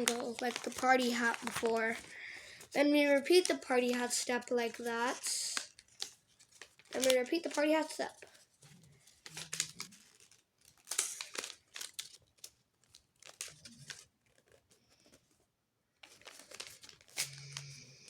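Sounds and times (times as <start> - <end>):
paper being folded and creased: 0.0 - 15.4, 16.0 - 18.0.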